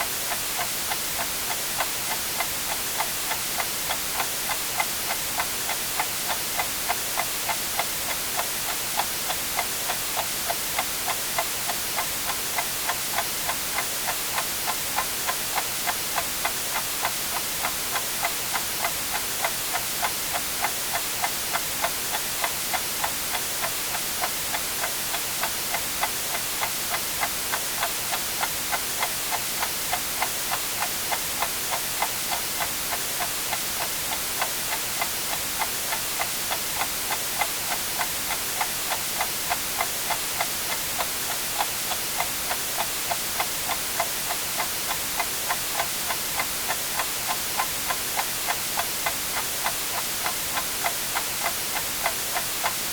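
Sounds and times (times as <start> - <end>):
white-noise hiss: 0.0 - 52.9
clock ticking: 0.3 - 52.9.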